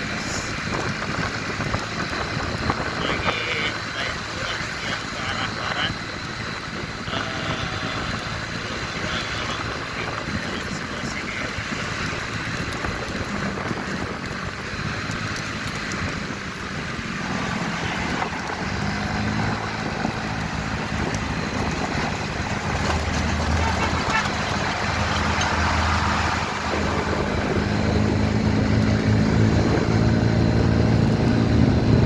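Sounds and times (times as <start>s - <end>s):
motorcycle engine hum: 0.0s - 32.0s
road and wind noise: 0.0s - 32.0s.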